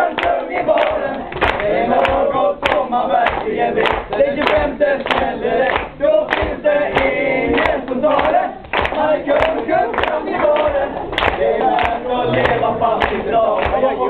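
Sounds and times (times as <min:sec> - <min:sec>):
group of men singing pop song: 0:00.0 - 0:14.0
hand claps: 0:00.1 - 0:14.0.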